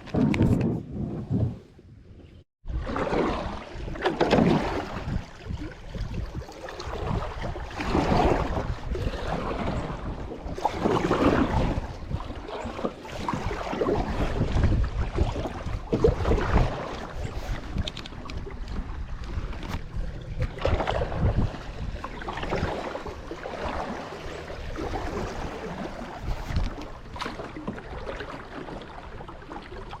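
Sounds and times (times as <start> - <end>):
wind rumble on microphone: 0.0 - 30.0
paddle strokes splashing and dripping: 2.7 - 30.0.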